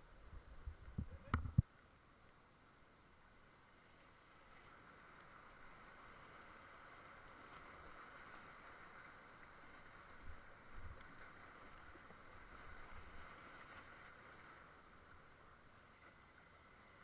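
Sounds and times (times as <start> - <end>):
rushing whitewater creek: 2.6 - 17.0.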